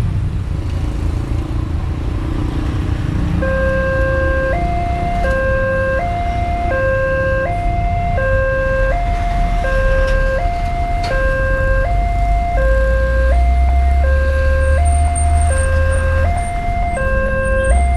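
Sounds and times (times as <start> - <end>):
road traffic rumble: 0.0 - 17.9
two-tone level crossing alarm: 3.4 - 17.9.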